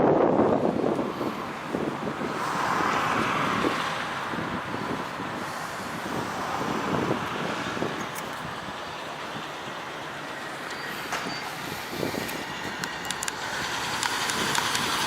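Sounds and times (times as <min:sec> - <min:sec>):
road traffic noise: 0:00.0 - 0:15.0
vehicle passing: 0:00.4 - 0:15.0.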